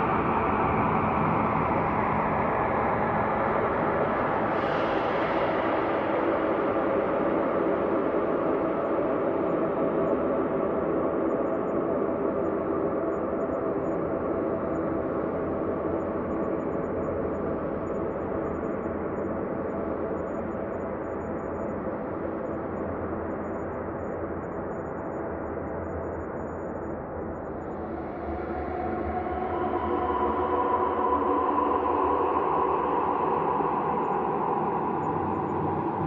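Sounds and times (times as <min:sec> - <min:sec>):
synthesized ambient drone: 0:00.0 - 0:36.0.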